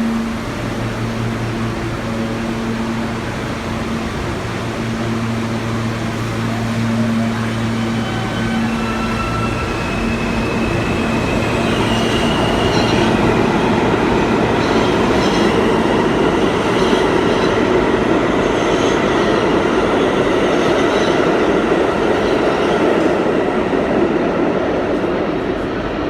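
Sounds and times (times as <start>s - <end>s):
subway train wheels rumbling: 0.0s - 26.0s.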